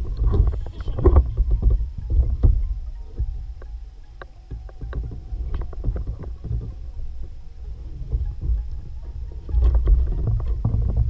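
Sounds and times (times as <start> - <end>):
fishing gear clicks and knocks: 0.0 - 7.3, 8.0 - 11.0
wind and water rumbling: 0.0 - 11.0.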